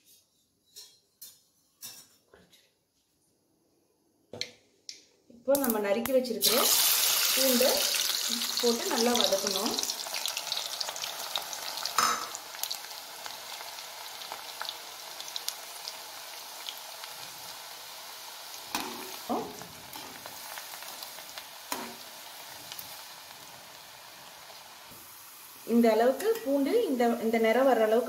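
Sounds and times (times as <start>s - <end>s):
garlic sizzling in oil: 5.5s - 28.0s.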